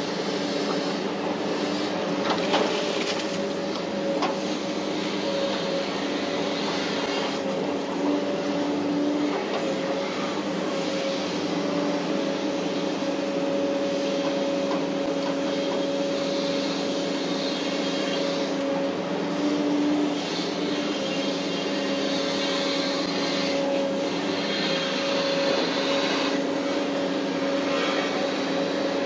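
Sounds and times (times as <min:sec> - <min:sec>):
excavator engine and hydraulics: 0:00.0 - 0:29.0.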